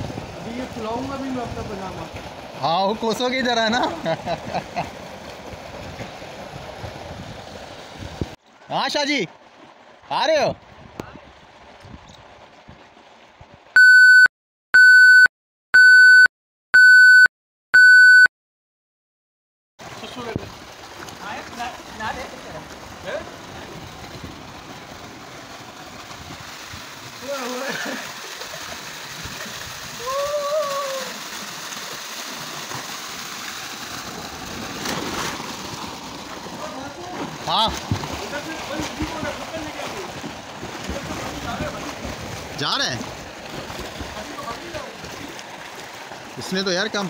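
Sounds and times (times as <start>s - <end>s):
water pouring and splashing: 0.0s - 13.8s, 19.8s - 47.0s.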